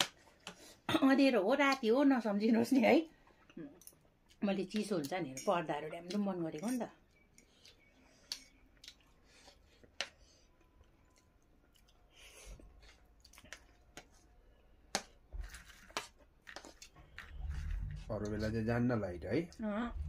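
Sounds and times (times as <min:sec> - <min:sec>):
faint chewing: 0:03.2 - 0:20.0.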